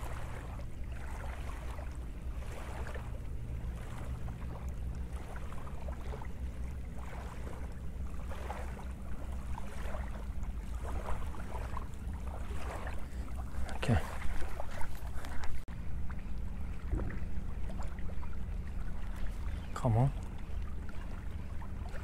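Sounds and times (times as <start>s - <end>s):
small waves washing on shore: 0.0s - 22.0s.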